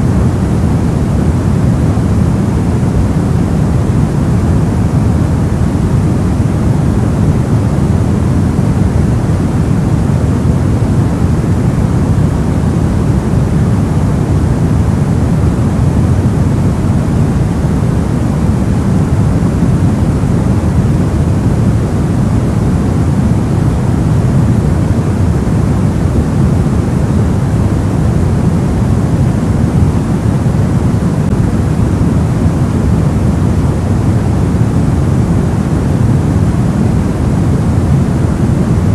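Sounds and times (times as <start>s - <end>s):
deep muffled white noise: 0.0s - 38.9s.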